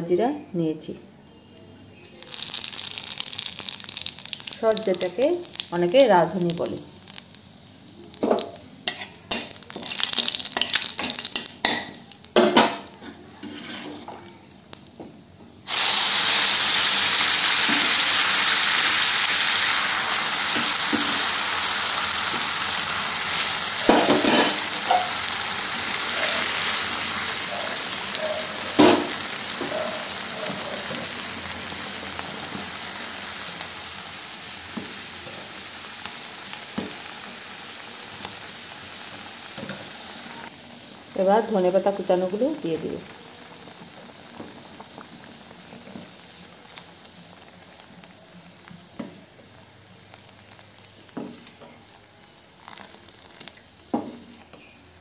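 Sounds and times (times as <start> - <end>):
loud steady sizzle: 1.3 - 55.0
seeds crackling in hot oil: 1.6 - 55.0.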